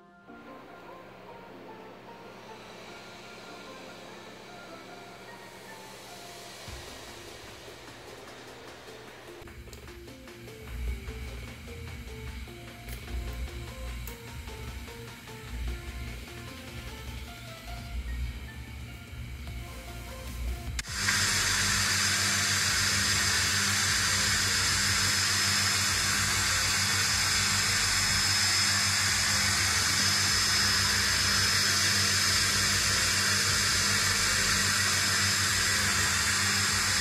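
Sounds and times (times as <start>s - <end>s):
faint high whine: 0.0s - 37.0s
low hum: 0.4s - 37.0s
steady rushing hiss: 1.3s - 37.0s.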